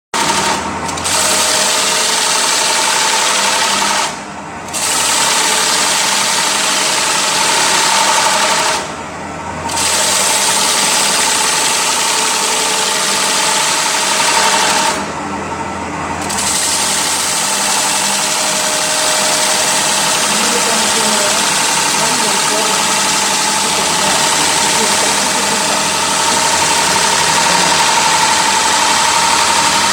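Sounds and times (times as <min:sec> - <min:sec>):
lathe motor whine: 0:00.2 - 0:29.9.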